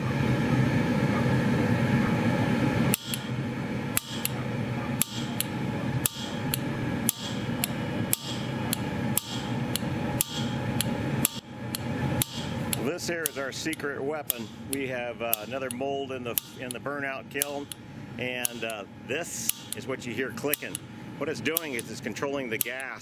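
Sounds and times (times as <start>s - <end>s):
gas burner rushing: 0.0s - 23.0s
solenoid valve clicking: 2.9s - 22.0s, 22.6s - 23.0s.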